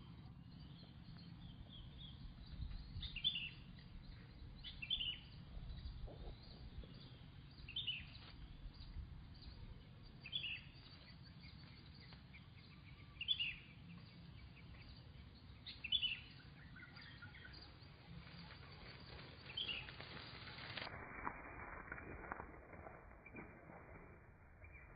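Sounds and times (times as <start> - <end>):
low steady rumble: 0.0 - 21.9.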